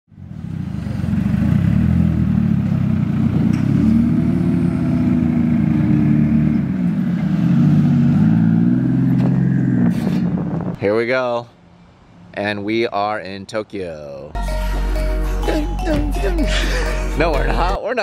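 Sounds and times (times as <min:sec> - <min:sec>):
car engines with low exhaust note: 0:00.1 - 0:17.8.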